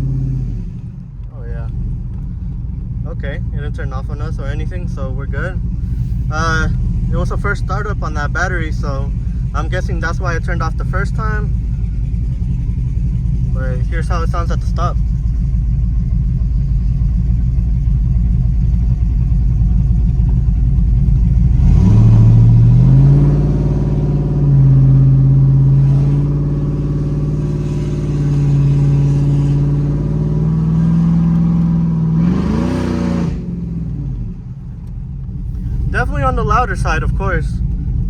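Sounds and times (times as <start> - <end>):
truck engine revving: 0.0 - 2.4, 3.1 - 38.0
truck engine lumpy idle: 0.0 - 38.0.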